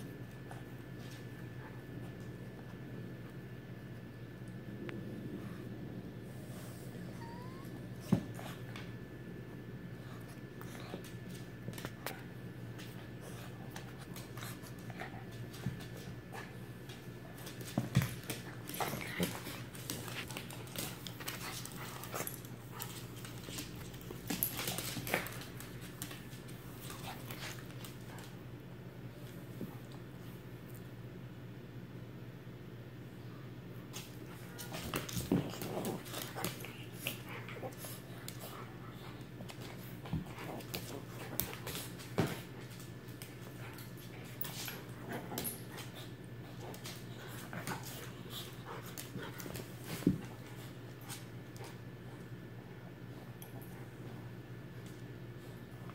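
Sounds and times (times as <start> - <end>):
dogs play-wrestling: 0.1 - 30.4, 33.8 - 55.9.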